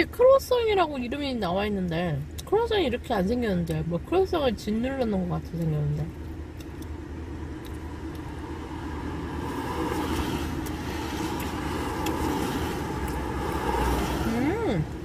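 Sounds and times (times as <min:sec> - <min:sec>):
car rumble from inside: 0:01.9 - 0:15.0.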